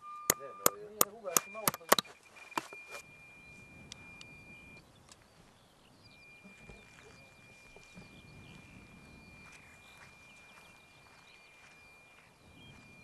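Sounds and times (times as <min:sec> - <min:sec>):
thin high whine: 0:00.0 - 0:04.9, 0:06.0 - 0:13.0.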